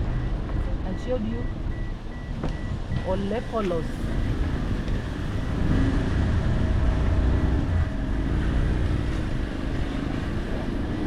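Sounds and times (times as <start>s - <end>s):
motor vehicle rumble: 0.0s - 11.0s
road noise: 0.0s - 11.0s.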